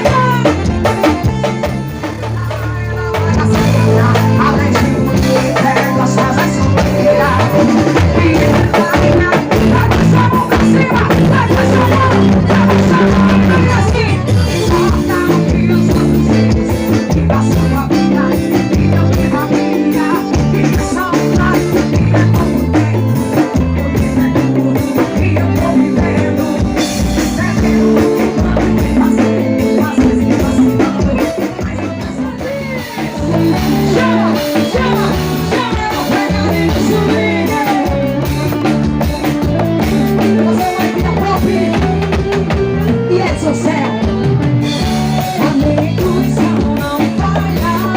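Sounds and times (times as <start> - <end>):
live band music: 0.0 - 47.9.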